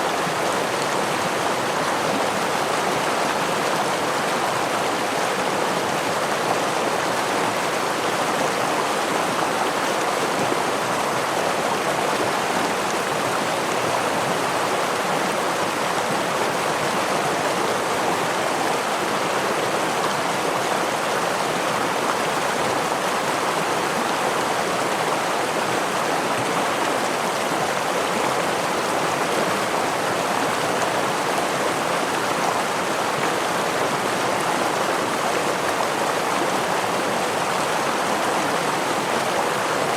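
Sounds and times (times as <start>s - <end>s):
gentle waterfall: 0.0s - 39.9s
stream rushing over rocks: 0.0s - 39.9s.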